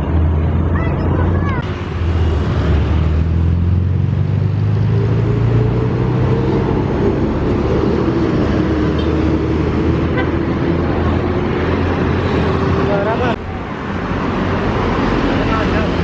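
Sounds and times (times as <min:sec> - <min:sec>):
road traffic noise: 0:00.0 - 0:16.0
vehicle engine humming: 0:00.0 - 0:16.0.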